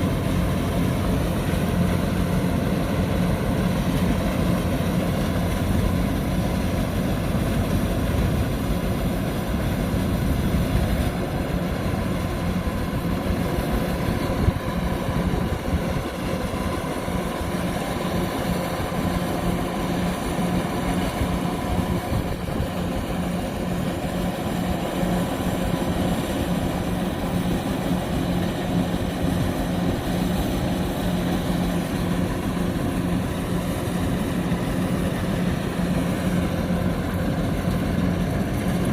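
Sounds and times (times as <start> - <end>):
combine harvester droning: 0.0 - 38.9
faint steady whine: 0.0 - 38.9.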